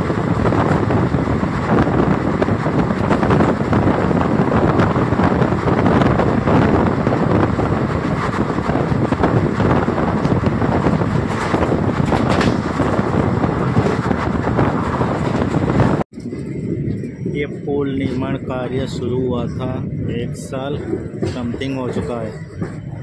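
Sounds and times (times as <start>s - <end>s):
train wheels rumbling on rails: 0.0s - 23.0s
wind buffeting microphone: 0.0s - 23.0s.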